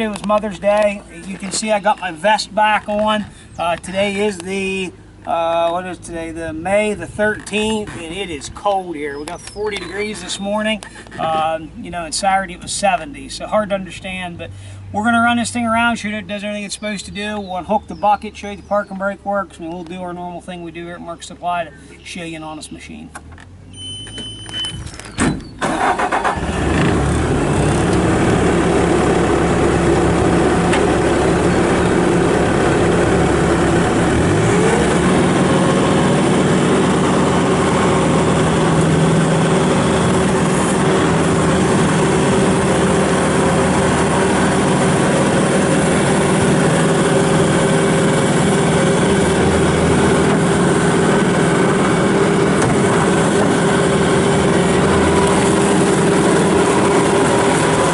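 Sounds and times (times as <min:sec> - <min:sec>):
diesel engine starting and running: 0:00.0 - 0:57.9.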